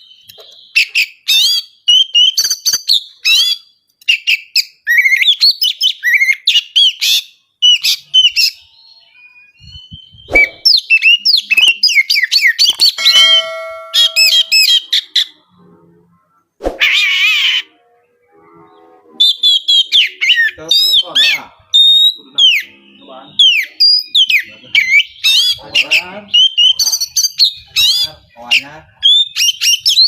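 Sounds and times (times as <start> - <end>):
bird singing: 0.0 - 16.5, 17.5 - 30.0.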